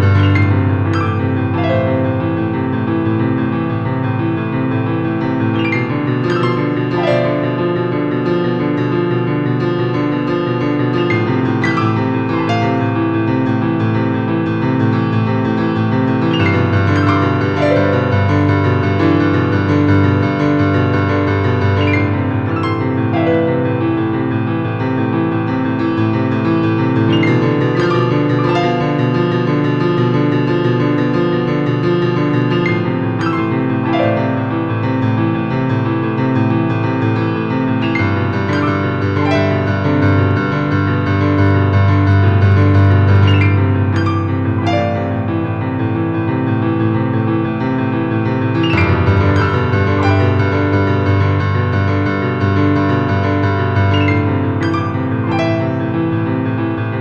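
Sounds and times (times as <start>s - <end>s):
slow piano chords: 0.0s - 57.0s.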